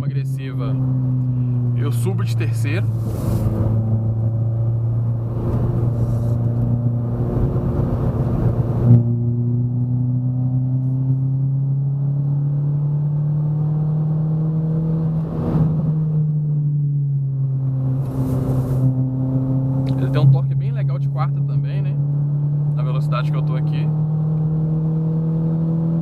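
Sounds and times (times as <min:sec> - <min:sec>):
loud car engine under load: 0:00.0 - 0:26.0.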